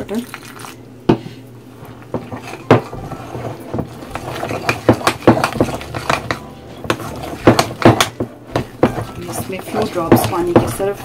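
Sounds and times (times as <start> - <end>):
spoon beating batter in a bowl: 2.1 - 11.0.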